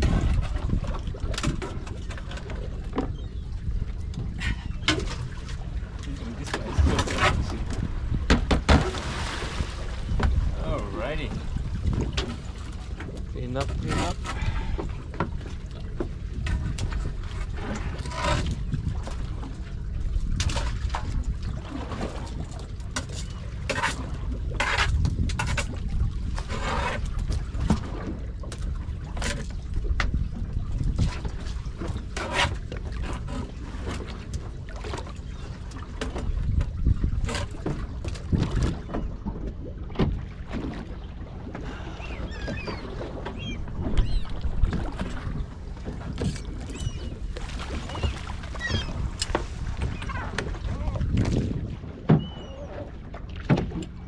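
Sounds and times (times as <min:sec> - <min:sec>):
low rumble of wind and water: 0:00.0 - 0:54.0.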